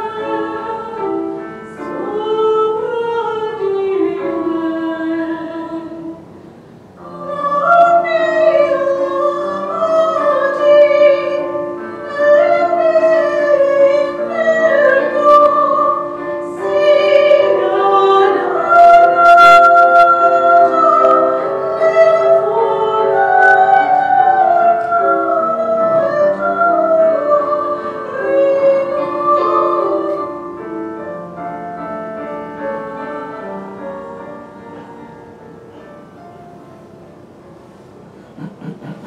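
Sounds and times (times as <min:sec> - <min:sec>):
hymn singing: 0:00.0 - 0:36.3
keyboard accompaniment: 0:00.0 - 0:39.0.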